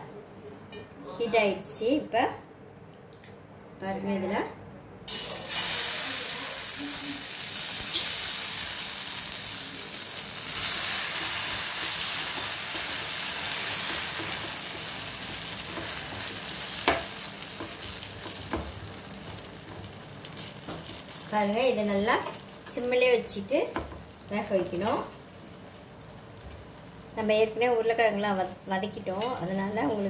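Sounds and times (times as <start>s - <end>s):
batter sizzling in hot oil: 5.1s - 30.0s.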